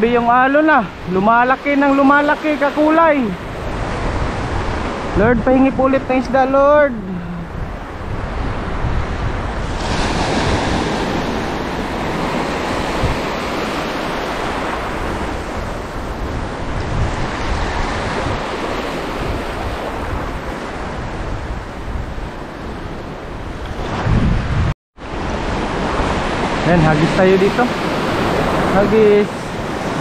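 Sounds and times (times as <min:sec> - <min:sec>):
heavy surf breaking: 0:00.0 - 0:30.0
wind buffeting microphone: 0:00.0 - 0:30.0.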